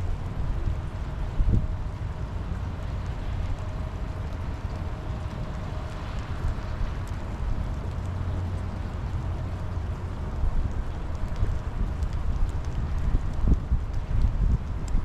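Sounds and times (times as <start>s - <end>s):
faint drip-like ticks: 0.0s - 15.0s
steady rainfall: 0.0s - 15.0s.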